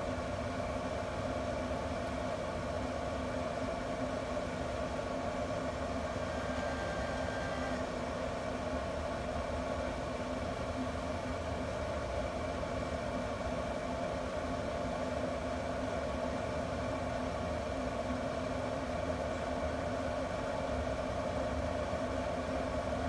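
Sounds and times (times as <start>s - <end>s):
grill fan humming: 0.0s - 23.0s.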